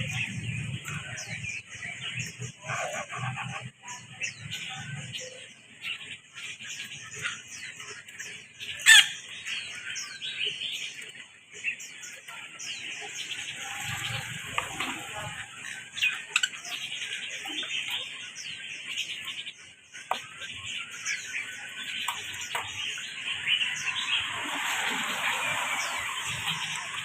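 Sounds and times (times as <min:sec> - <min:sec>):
parrots chattering: 0:00.0 - 0:27.0.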